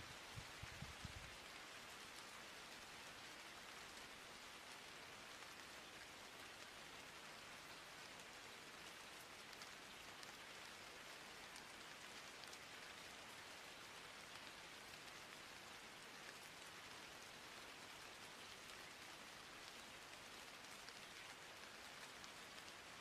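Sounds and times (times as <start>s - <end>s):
faint hiss with crackles: 0.0s - 23.0s.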